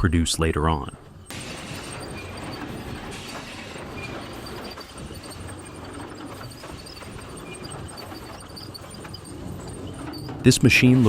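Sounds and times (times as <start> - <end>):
debarking machinery running: 0.4 - 11.0
logs clattering against steel rollers: 0.9 - 11.0.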